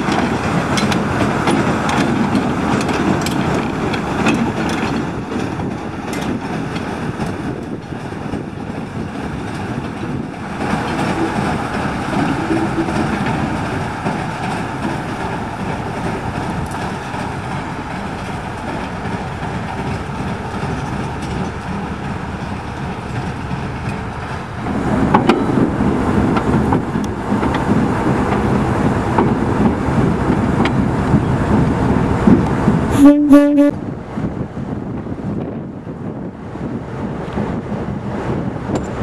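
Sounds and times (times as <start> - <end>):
diesel locomotive engine running: 0.0 - 39.0.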